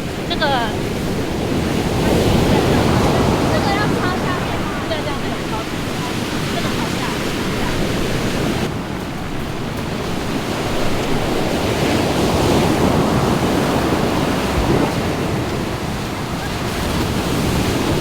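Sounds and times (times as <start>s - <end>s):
ocean surf breaking on beach: 0.0s - 18.0s
wind buffeting microphone: 0.0s - 18.0s.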